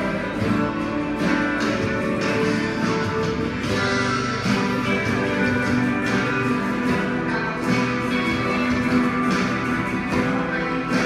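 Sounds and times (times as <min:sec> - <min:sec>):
acoustic guitars strumming: 0:00.0 - 0:11.0.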